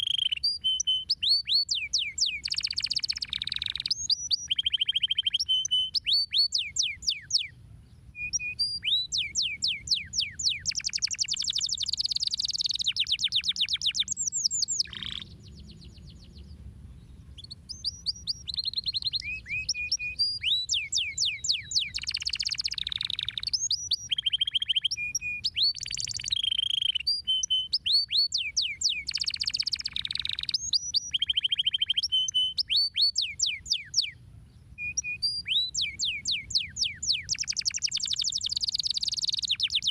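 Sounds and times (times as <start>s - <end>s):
canary singing: 0.0s - 7.6s, 8.2s - 34.2s, 34.8s - 39.9s.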